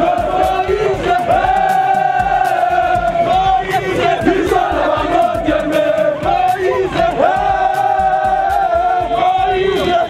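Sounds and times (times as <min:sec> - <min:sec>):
many voices singing in unison: 0:00.0 - 0:10.0.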